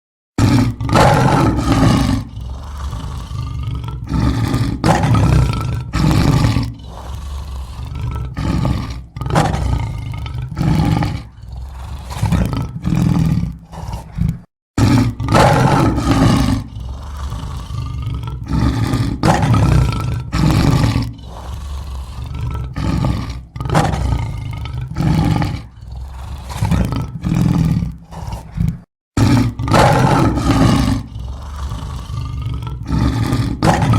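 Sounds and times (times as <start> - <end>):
lion roaring: 0.4 - 33.9.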